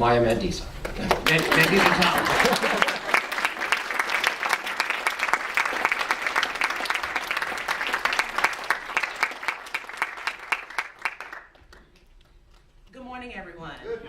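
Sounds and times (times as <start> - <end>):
audience applauding: 0.9 - 12.3.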